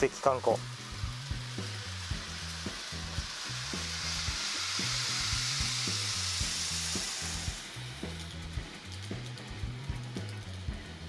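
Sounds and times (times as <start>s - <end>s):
model train rolling hiss: 0.0s - 11.0s.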